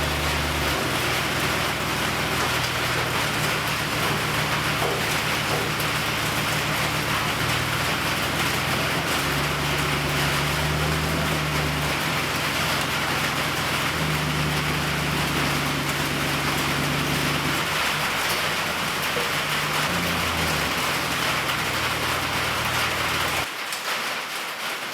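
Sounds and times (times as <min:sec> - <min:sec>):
welding arc crackling: 0:00.0 - 0:23.5.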